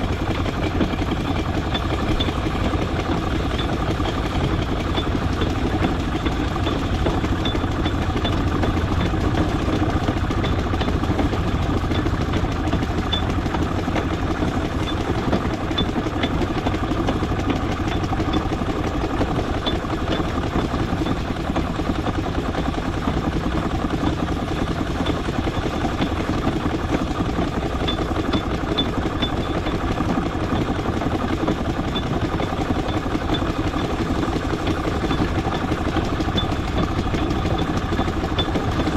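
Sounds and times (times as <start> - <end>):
steam traction engine running: 0.0 - 38.9.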